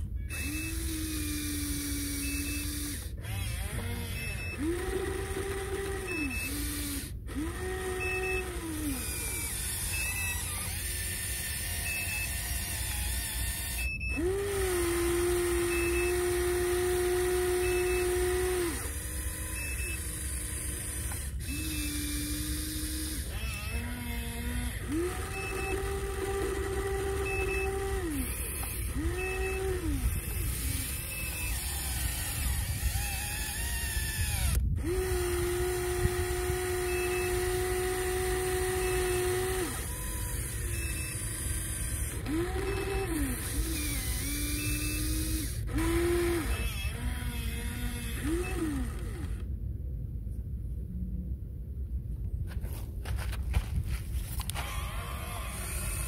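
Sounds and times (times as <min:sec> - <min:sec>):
electric motors whining: 0:00.0 - 0:49.6, 0:53.2 - 0:56.0.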